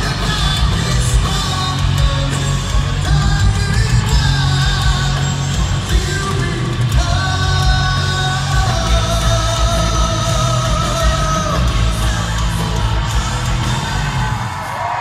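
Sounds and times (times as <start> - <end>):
distorted guitars: 0.0 - 15.0
heavy drums: 0.0 - 15.0
sung vocals: 0.0 - 15.0.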